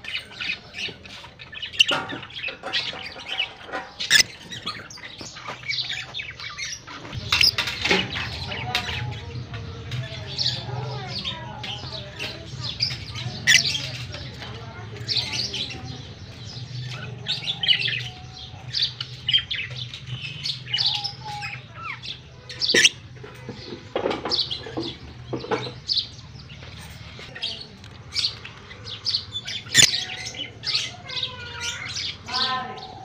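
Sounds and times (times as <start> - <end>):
lovebirds chirping and squawking: 0.0 - 33.0.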